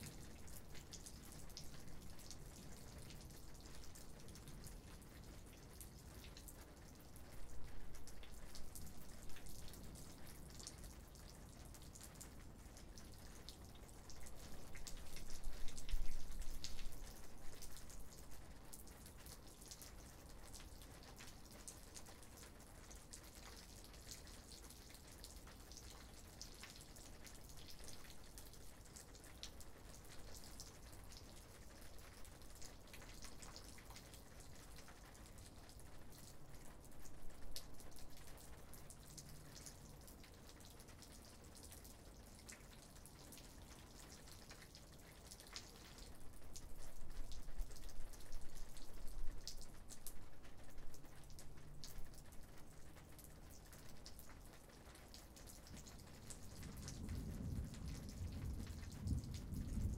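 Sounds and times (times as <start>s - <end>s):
light rain drops ticking: 0.0s - 59.9s.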